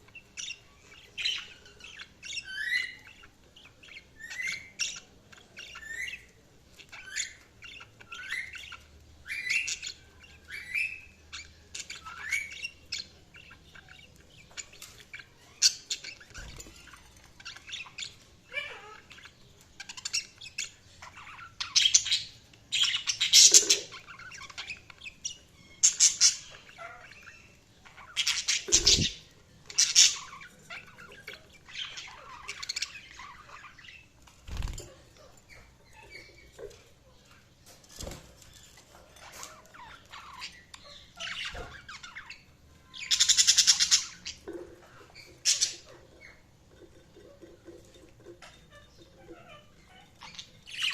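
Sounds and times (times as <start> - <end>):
budgerigars chirping and squawking: 0.0 - 50.9.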